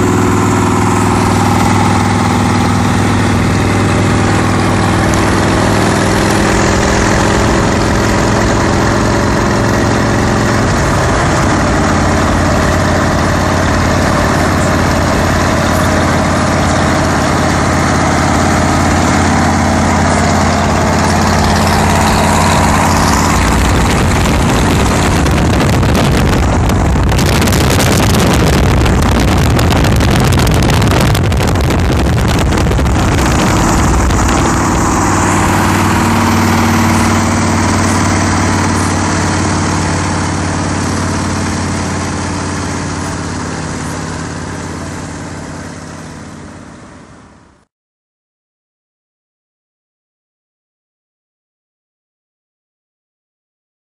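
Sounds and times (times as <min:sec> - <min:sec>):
wind noise on microphone: 0:00.0 - 0:44.6
motorcycle engine cruising: 0:00.0 - 0:47.6
road noise: 0:00.0 - 0:47.7.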